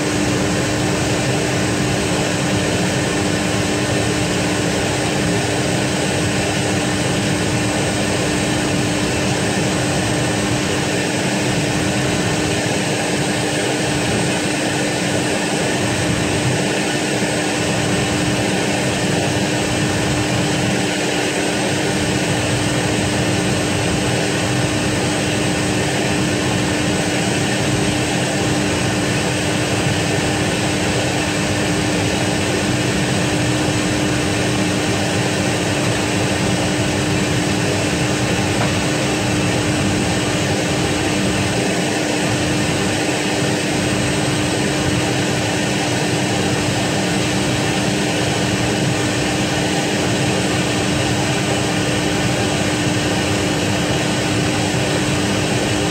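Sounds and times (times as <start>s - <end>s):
machinery hum: 0.0s - 55.9s.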